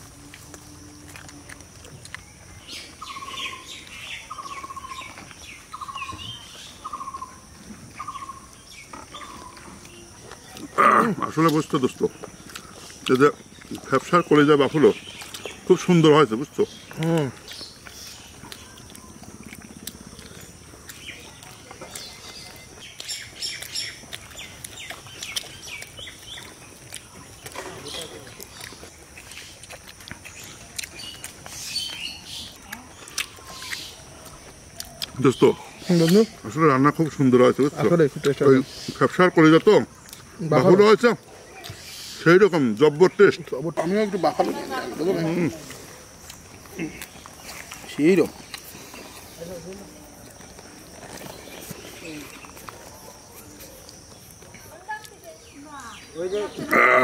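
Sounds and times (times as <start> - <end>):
higher bird chirps: 2.0 - 49.9.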